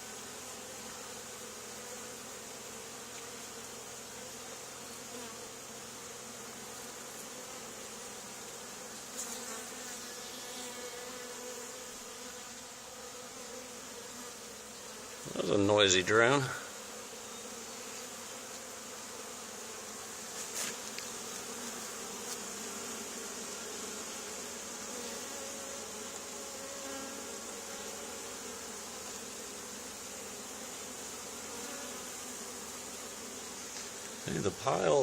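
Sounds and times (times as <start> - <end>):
bee swarm buzzing: 0.0 - 35.0.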